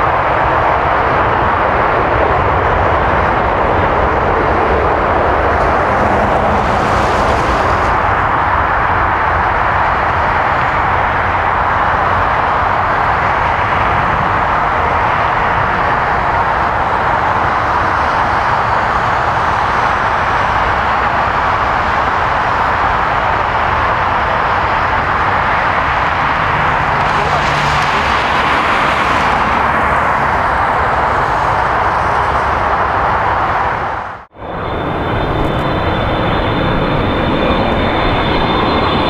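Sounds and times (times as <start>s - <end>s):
jet engines rushing: 0.0s - 39.0s.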